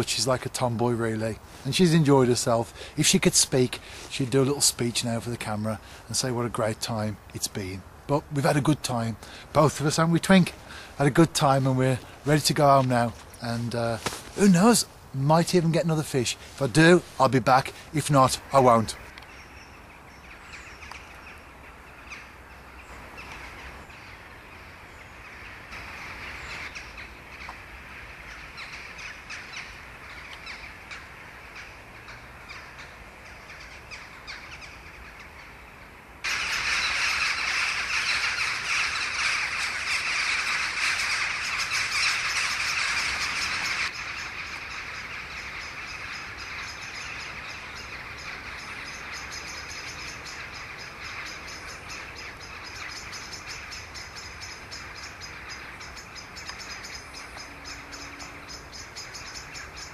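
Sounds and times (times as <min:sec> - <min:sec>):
crows and jackdaws calling: 0:03.7 - 0:06.3, 0:09.2 - 0:13.4, 0:16.3 - 0:59.9.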